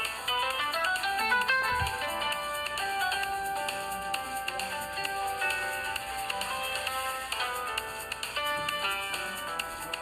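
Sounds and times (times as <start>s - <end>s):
electronic ringtone melody: 0.0s - 10.0s
steady ticking beat: 0.0s - 10.0s.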